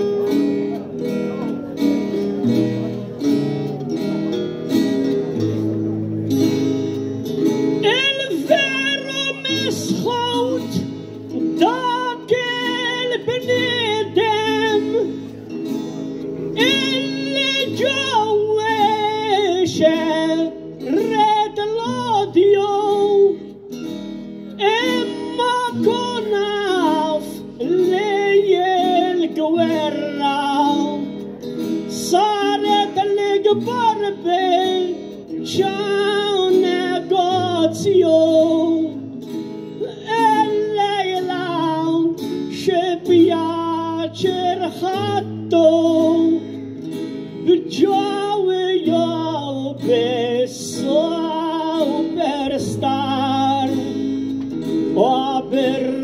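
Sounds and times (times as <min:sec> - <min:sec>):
man singing into a microphone: 0:00.0 - 0:01.7, 0:07.8 - 0:15.3, 0:16.5 - 0:23.6, 0:24.5 - 0:39.2, 0:39.8 - 0:46.6, 0:47.3 - 0:56.0
acoustic guitars playing: 0:00.0 - 0:56.0.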